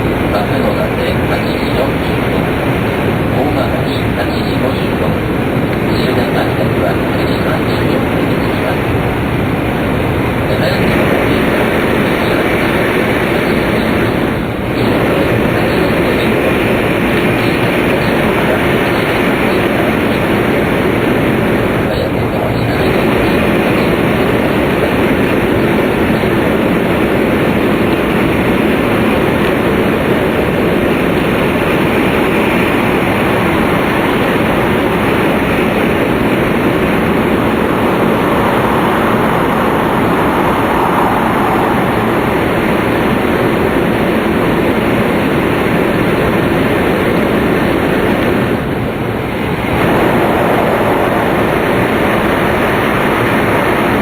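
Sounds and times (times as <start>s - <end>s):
train interior rushing roar: 0.0s - 54.0s.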